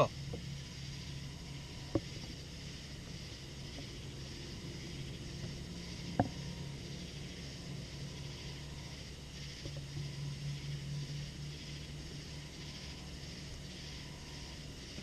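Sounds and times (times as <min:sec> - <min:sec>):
faint high hiss: 0:00.0 - 0:15.0
steady low hum: 0:00.0 - 0:15.0.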